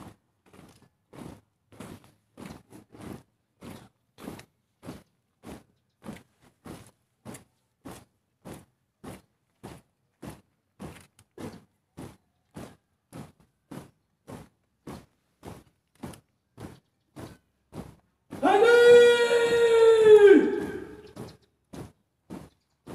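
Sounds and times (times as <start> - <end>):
marching boots on gravel: 0.0 - 22.9.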